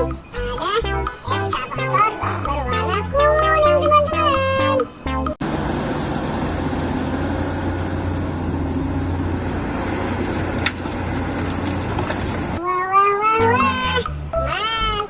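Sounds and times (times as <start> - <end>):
vehicle engine humming: 0.0 - 12.6.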